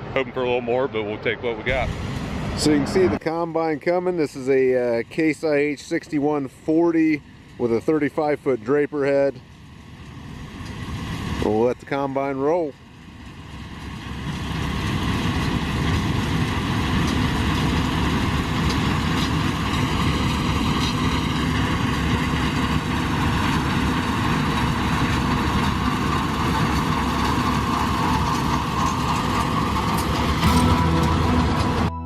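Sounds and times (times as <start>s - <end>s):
combine harvester engine drone: 0.0s - 32.0s.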